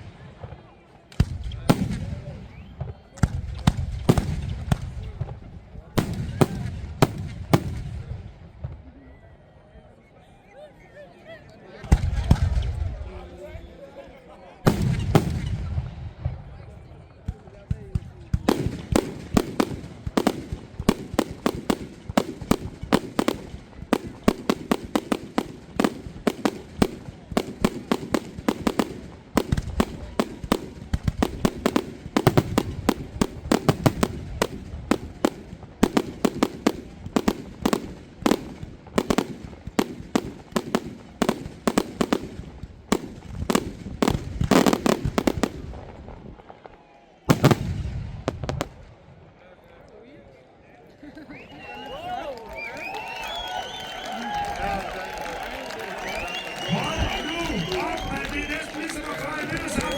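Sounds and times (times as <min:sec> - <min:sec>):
fireworks bangs and crackles: 0:00.0 - 0:09.0, 0:11.8 - 0:13.6, 0:14.6 - 0:49.3, 0:52.4 - 0:59.9.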